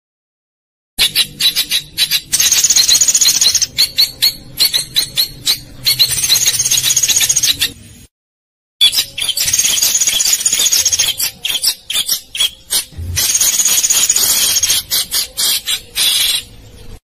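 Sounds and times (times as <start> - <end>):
songbird trills and chattering: 1.0 - 7.7, 8.8 - 16.5.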